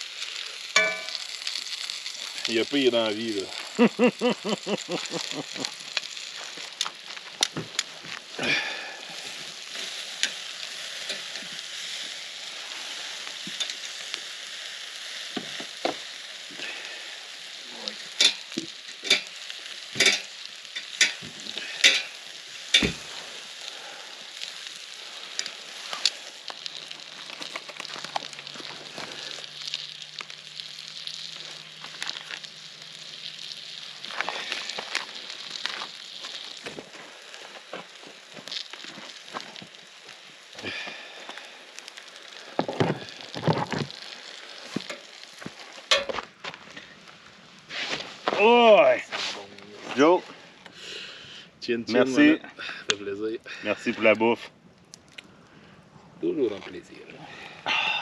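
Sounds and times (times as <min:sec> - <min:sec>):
food sizzling in a frying pan: 0:00.0 - 0:55.4.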